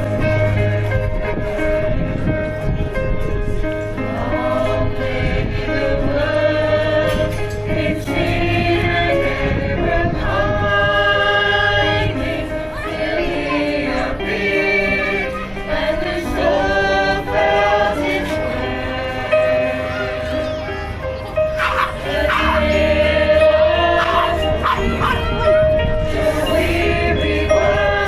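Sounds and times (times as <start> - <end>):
choir singing a carol: 0.0 - 2.0, 4.0 - 20.4, 21.5 - 28.0.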